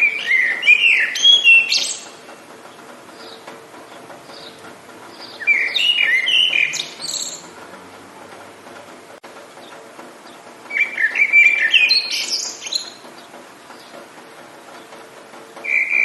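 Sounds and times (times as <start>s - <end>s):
songbird singing: 0.0s - 15.0s, 15.6s - 16.0s.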